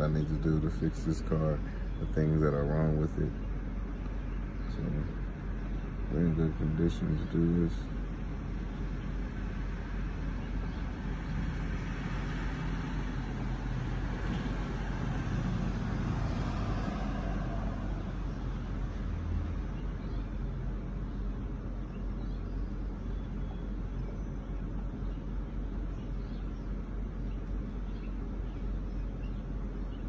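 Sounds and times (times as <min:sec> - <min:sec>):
car engine running: 0:00.0 - 0:16.5, 0:17.8 - 0:30.0.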